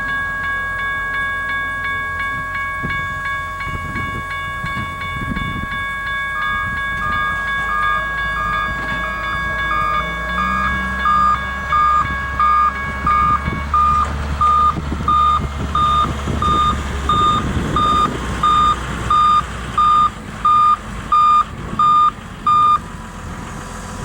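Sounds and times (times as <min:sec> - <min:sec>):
electronic warning beeper: 0:00.0 - 0:22.8
low rumble: 0:00.0 - 0:24.0.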